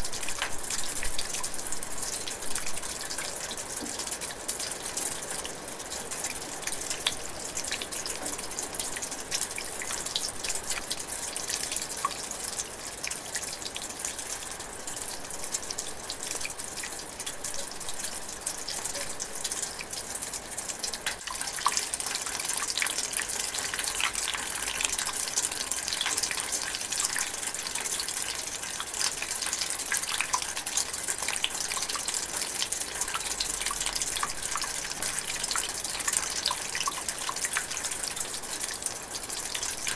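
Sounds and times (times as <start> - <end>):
light drizzling rain: 0.0 - 39.9.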